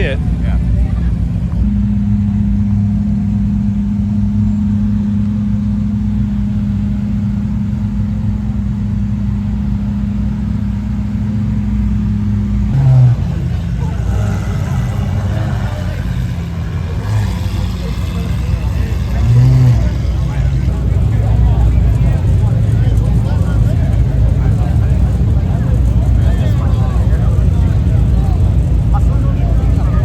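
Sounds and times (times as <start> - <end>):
car engine running and revving: 0.0 - 30.0.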